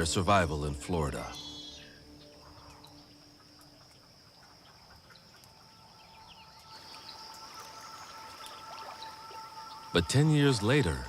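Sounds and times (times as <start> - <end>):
faint chirps: 0.0 - 11.0
high insect drone: 0.0 - 11.0.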